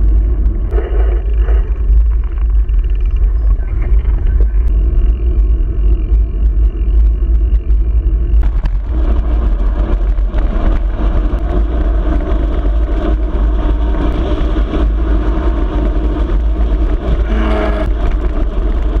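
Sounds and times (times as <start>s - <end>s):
tyre noise on asphalt: 0.0s - 19.0s
wind rumble on microphone: 0.0s - 19.0s.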